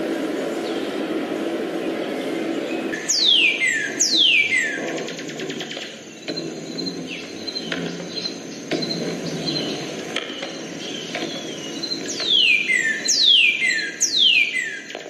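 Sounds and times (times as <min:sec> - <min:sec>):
low background noise: 0:00.0 - 0:15.0
faint bird chirps: 0:02.1 - 0:15.0.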